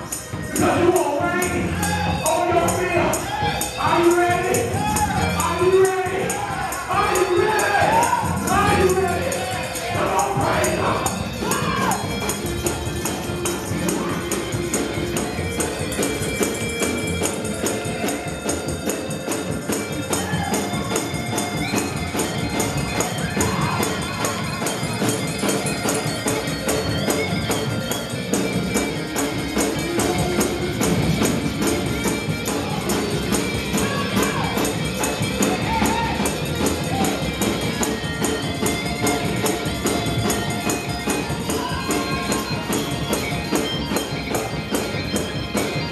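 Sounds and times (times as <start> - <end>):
fast gospel music: 0.0 - 45.9
tambourine shaken and struck: 0.0 - 45.9.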